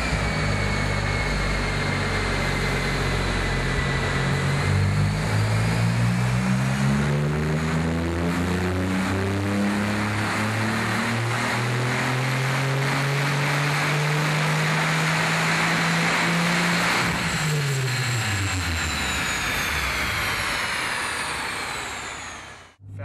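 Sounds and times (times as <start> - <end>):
high whine falling in pitch: 0.0 - 23.0
sports car engine under load: 0.0 - 23.0.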